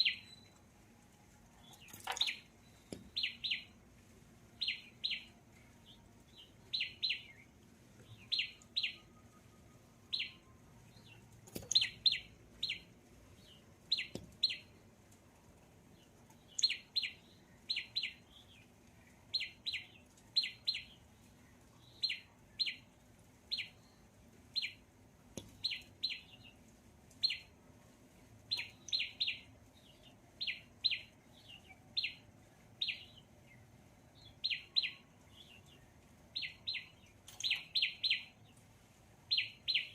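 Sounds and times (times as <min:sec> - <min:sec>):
bird chirping: 0:00.0 - 0:00.8, 0:01.5 - 0:03.8, 0:04.5 - 0:14.8, 0:15.9 - 0:27.6, 0:28.5 - 0:39.9.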